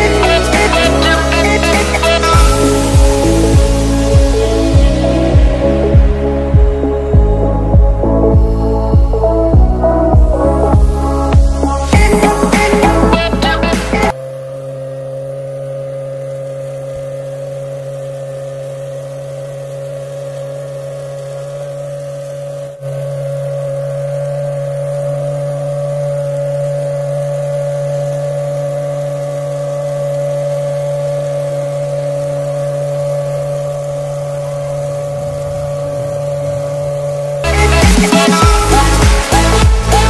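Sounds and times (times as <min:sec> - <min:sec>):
small motor whining: 0:00.0 - 0:40.0.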